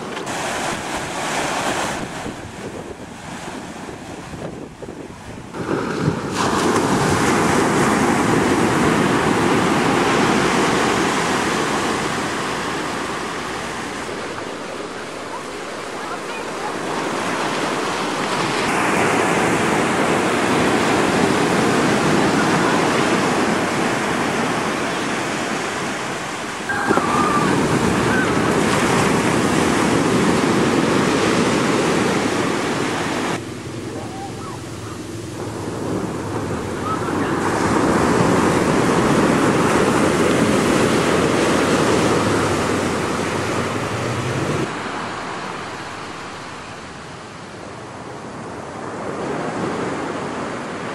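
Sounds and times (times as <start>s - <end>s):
ocean surf breaking on beach: 0.0s - 50.9s.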